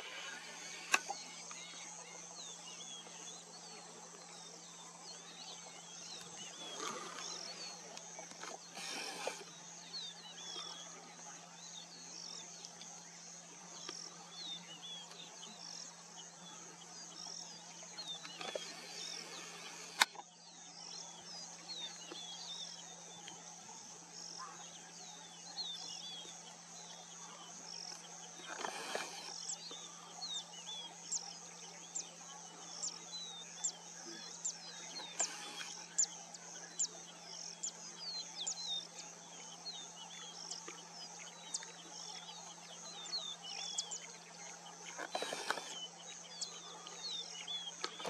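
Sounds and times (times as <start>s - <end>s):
insects trilling: 0.0s - 48.0s.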